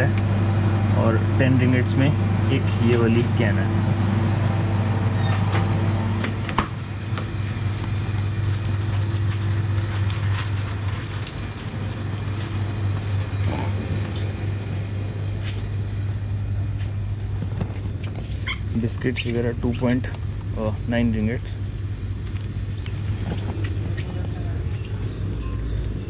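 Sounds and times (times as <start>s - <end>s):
air conditioning and refrigeration hum: 0.0s - 26.0s.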